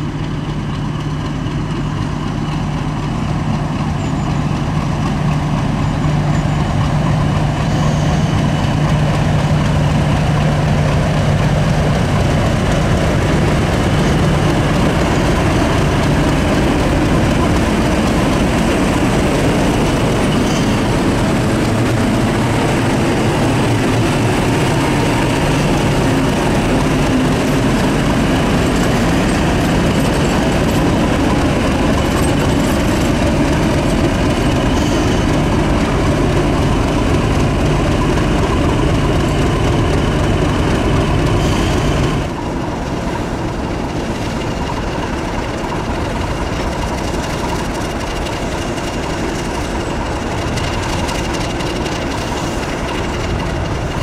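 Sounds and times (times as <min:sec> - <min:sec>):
diesel locomotive engine drone: 0:00.0 - 0:54.0
held engine whine: 0:00.0 - 0:54.0.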